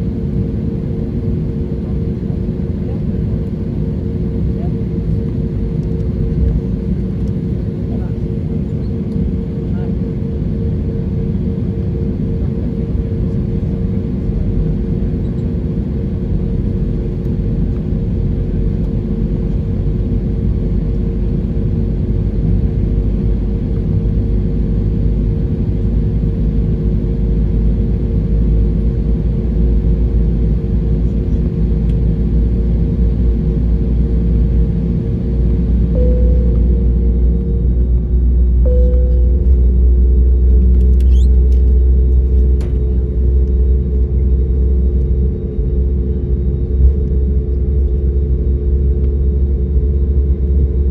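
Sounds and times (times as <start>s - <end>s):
jet engines rumbling: 0.0s - 50.0s.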